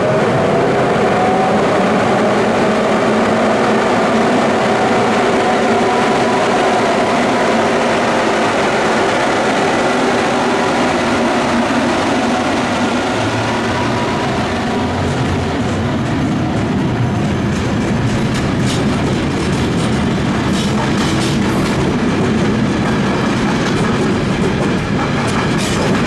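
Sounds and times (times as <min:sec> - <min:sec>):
cooling blowers whooshing whine: 0:00.0 - 0:26.0
electric locomotive passing slowly: 0:00.0 - 0:26.0.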